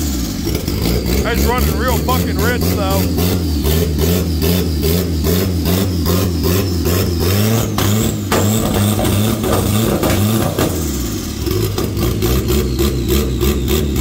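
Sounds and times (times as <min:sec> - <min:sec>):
car engine idling unevenly: 0:00.0 - 0:14.0.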